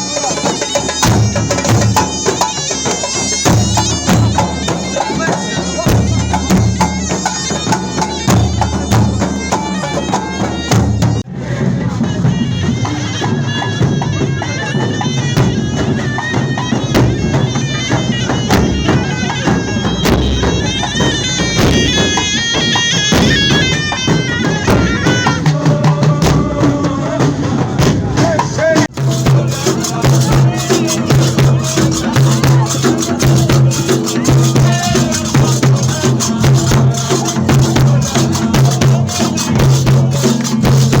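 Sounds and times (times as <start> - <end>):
reedy wind instrument melody: 0.0 - 11.2, 11.8 - 26.6, 29.1 - 41.0
fast dense drumming: 0.0 - 13.0, 15.3 - 22.4, 23.0 - 41.0.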